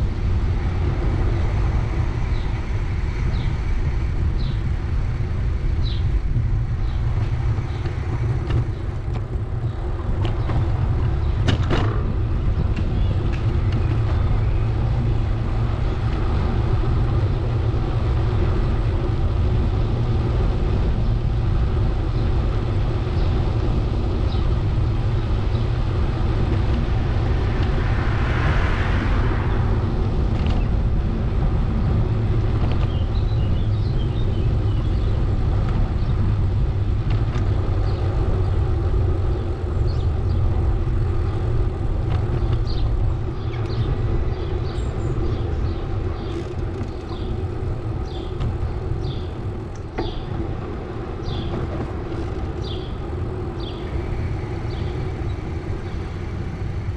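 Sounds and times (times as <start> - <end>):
bicycle road noise: 0.0 - 56.9
wind rumble on microphone: 0.0 - 56.9.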